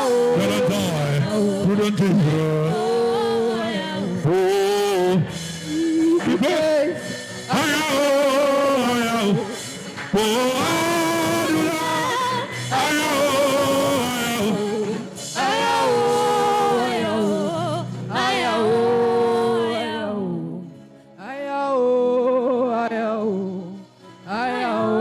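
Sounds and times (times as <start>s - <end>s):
person singing gospel: 0.0s - 25.0s.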